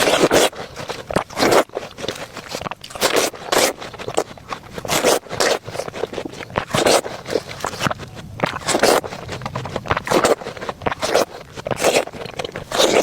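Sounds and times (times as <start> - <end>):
biting and chewing fruit: 0.0 - 13.0.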